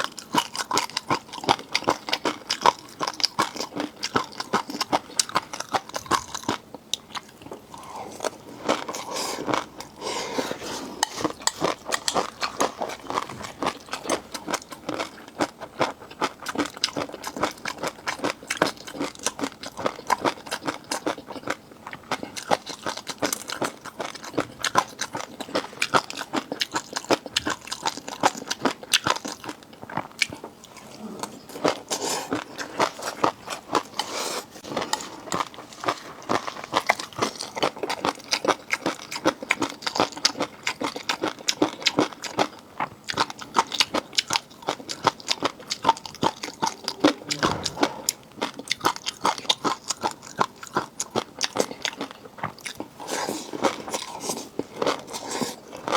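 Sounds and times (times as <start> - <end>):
crunchy biting and wet chewing: 0.0 - 55.9.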